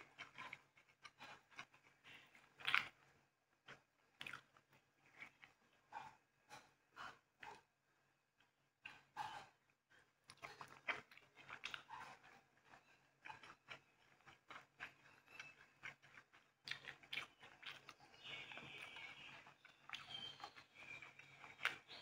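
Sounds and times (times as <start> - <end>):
person chewing: 0.0 - 7.7, 10.3 - 22.0.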